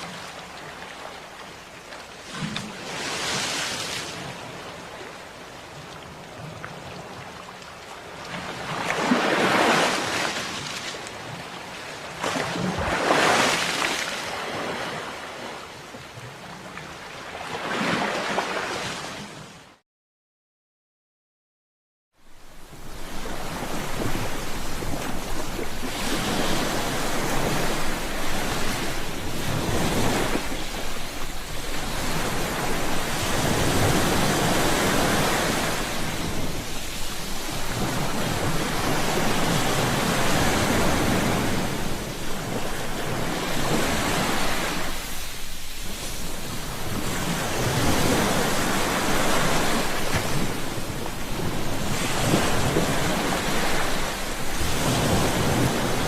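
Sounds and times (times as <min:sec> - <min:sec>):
ocean waves: 0:00.0 - 0:19.8, 0:22.2 - 0:56.0.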